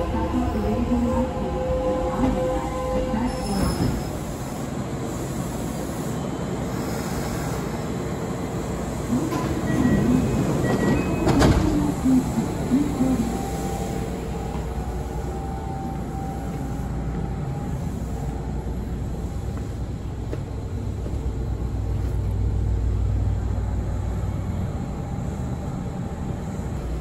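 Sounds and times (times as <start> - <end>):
electric train rumble and hum: 0.0 - 27.0.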